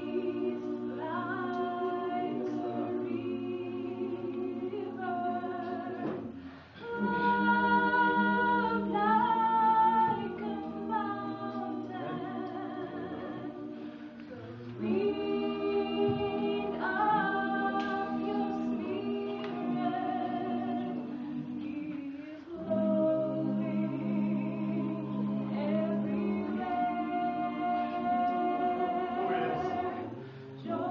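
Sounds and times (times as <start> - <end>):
a cappella gospel group singing: 0.0 - 30.9.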